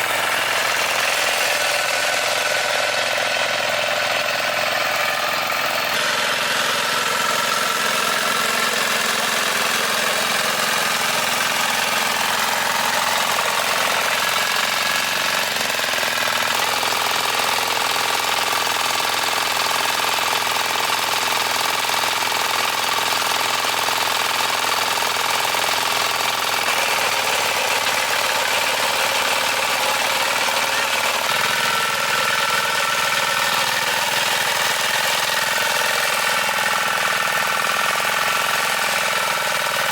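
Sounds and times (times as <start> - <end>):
small machine engine running: 0.0 - 39.9.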